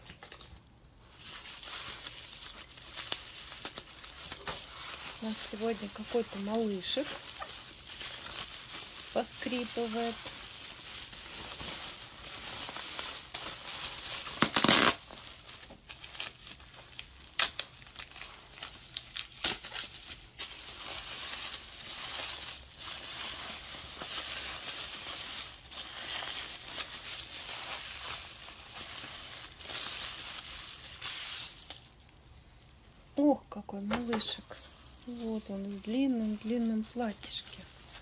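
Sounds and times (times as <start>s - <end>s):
bubble wrap cracking: 0.0s - 38.0s
bubble wrap crinkling: 0.0s - 38.0s.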